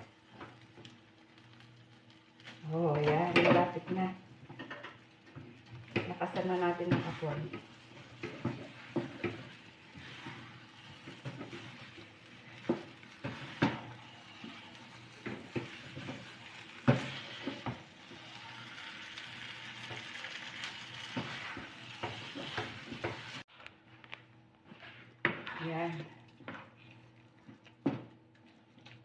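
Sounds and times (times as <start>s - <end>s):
spatula scraping a wok: 0.0s - 23.6s
steady sizzle: 0.0s - 23.6s, 24.2s - 29.0s.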